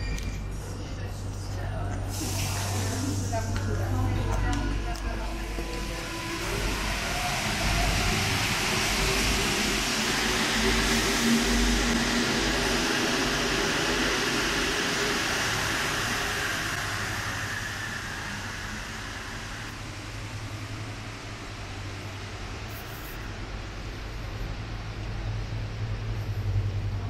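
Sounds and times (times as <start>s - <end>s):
train running noise and motor whine: 0.0s - 27.0s.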